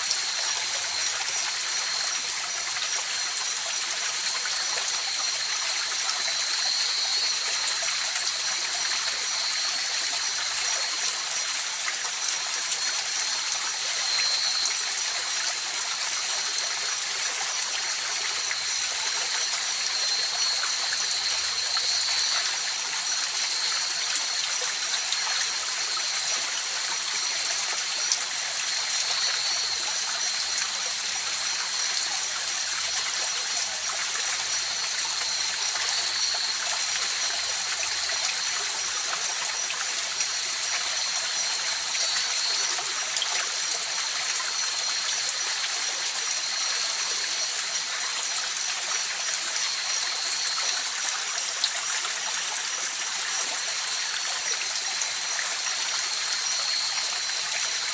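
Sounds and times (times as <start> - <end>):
night insects trilling: 0.0 - 57.9.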